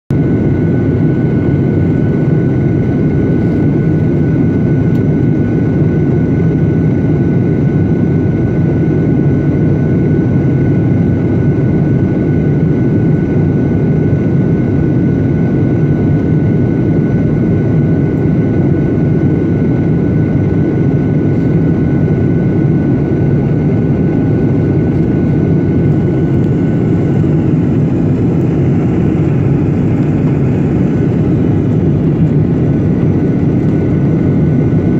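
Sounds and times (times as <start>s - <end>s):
airliner cabin airflow and engine rush: 0.1s - 34.9s.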